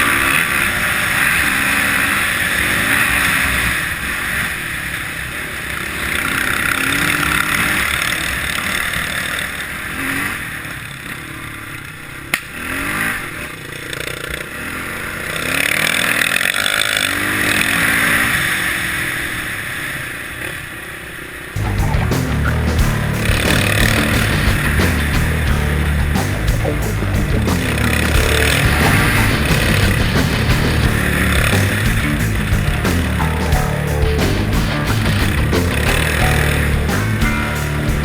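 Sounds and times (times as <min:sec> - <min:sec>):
motorcycle engine revving: 0:00.0 - 0:20.5, 0:21.5 - 0:38.0.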